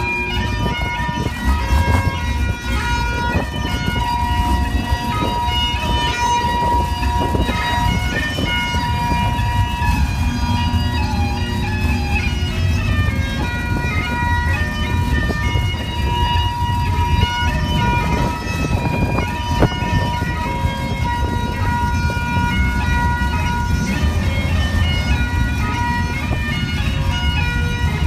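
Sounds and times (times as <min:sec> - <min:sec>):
bagpipes playing a tune: 0:00.0 - 0:28.0
heavy low rumble: 0:00.0 - 0:28.0.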